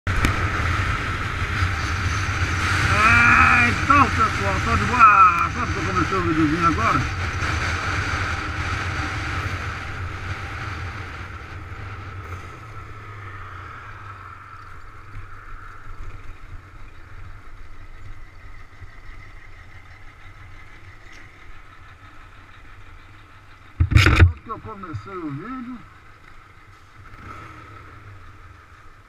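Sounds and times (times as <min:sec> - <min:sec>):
motorcycle engine running: 0:00.1 - 0:29.0.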